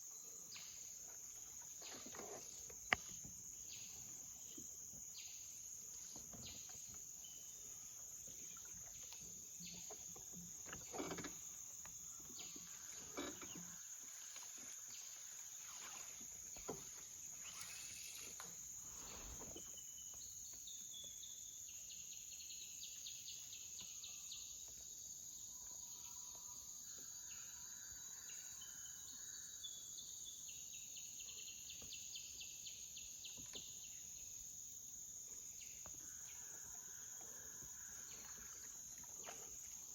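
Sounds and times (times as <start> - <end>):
insects droning: 0.0 - 23.2, 24.0 - 39.9.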